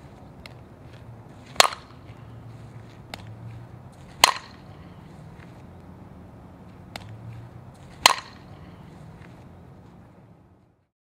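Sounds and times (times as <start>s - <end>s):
bat cracking on softball: 0.0s - 5.9s, 6.7s - 9.9s.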